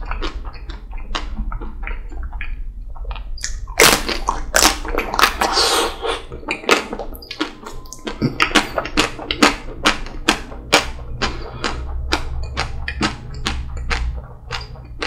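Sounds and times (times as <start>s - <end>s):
chewing with wet mouth clicks: 0.0s - 5.5s, 6.4s - 15.0s.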